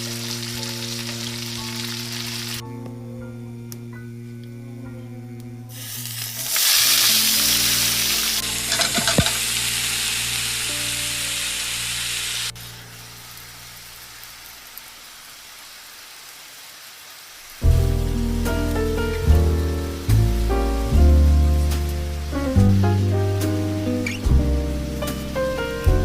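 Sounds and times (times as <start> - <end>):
food sizzling in a frying pan: 0.0 - 2.6, 5.7 - 26.0.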